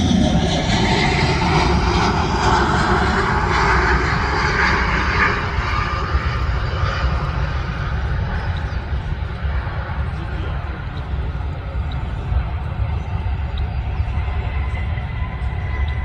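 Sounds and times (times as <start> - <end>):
airliner engines roaring: 0.0 - 16.0.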